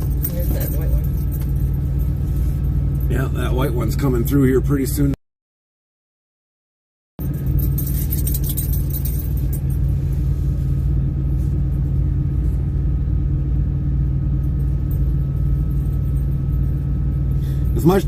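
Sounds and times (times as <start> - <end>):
truck engine rumbling: 0.0 - 5.2, 7.2 - 18.0.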